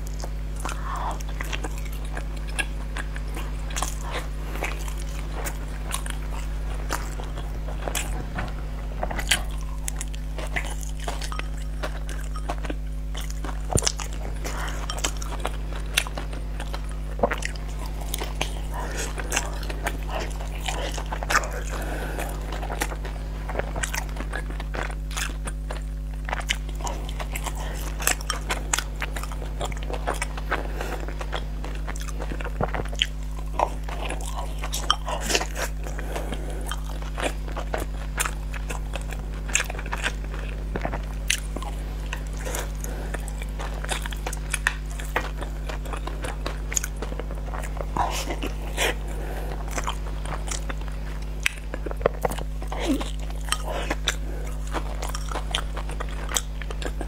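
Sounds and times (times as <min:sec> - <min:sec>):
chewing sticky rice dumplings: 0:00.0 - 0:57.0
low hum: 0:00.0 - 0:57.0.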